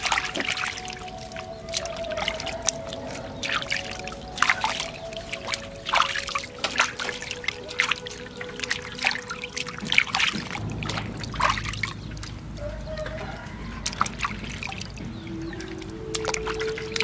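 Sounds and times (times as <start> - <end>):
water splashing in metal bowl: 0.0 - 17.0.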